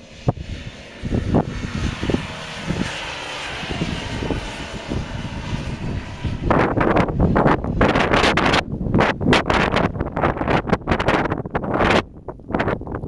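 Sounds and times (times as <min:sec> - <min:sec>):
distant engine drone: 0:00.0 - 0:13.0
wind gusting on microphone: 0:00.0 - 0:13.0.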